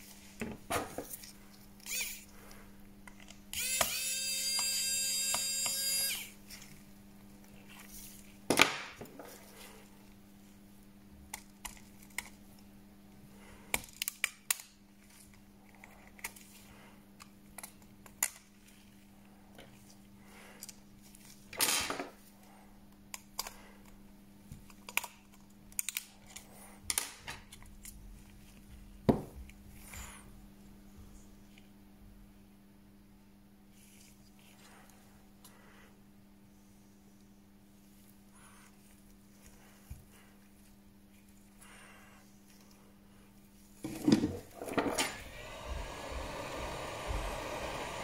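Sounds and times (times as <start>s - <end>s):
steady electrical hum: 0.0s - 48.0s.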